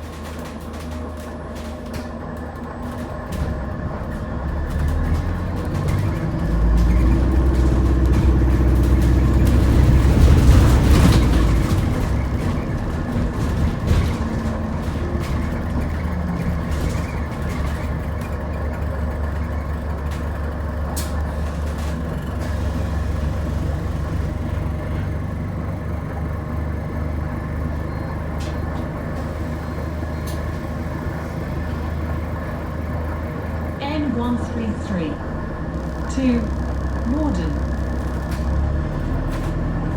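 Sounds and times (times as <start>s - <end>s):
bus cabin drone: 0.0s - 39.9s.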